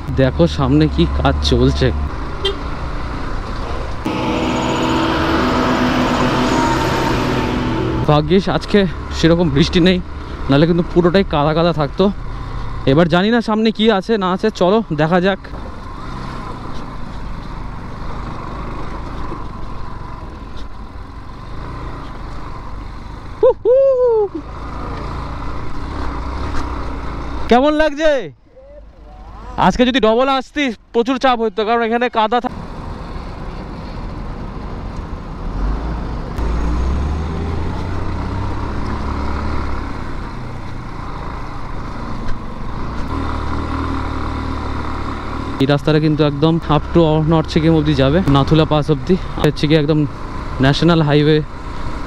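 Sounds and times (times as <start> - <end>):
wind and road noise: 0.0 - 52.0.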